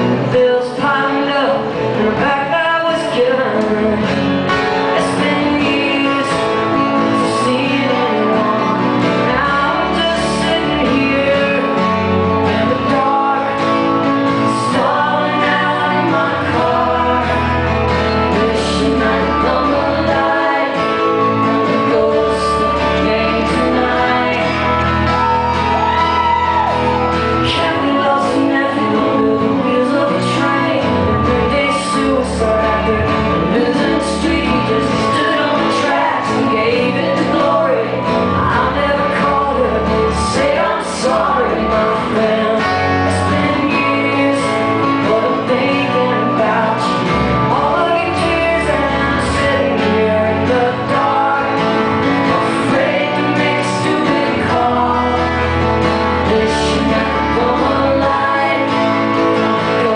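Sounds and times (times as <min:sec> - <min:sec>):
strummed acoustic guitar: 0:00.0 - 0:59.9
woman singing into microphone: 0:00.0 - 0:59.9.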